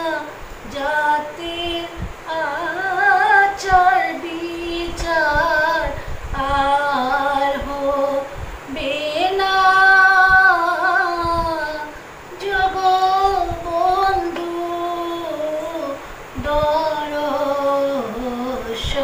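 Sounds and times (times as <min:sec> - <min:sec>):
woman singing solo: 0:00.0 - 0:19.0.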